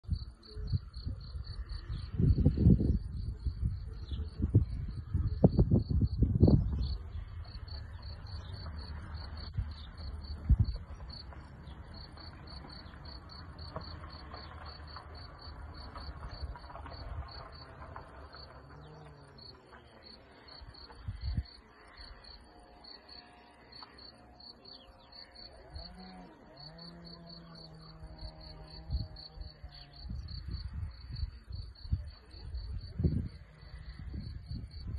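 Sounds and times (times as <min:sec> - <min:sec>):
wind rumble on microphone: 0:00.0 - 0:19.8, 0:20.4 - 0:22.4, 0:26.7 - 0:34.9.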